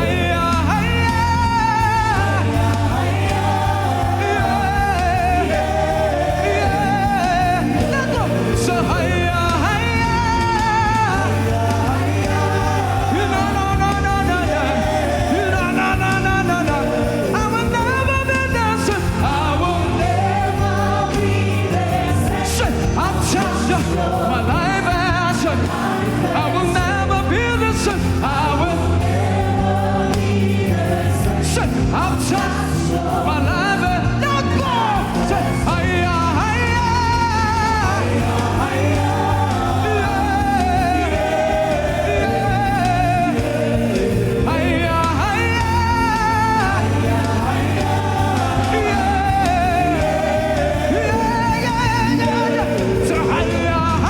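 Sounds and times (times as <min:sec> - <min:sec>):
bass line: 0:00.0 - 0:54.0
choir singing gospel music: 0:00.0 - 0:54.0.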